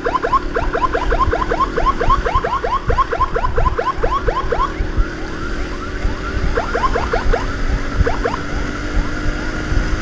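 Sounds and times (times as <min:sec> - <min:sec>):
emergency siren yelping: 0:00.0 - 0:09.2.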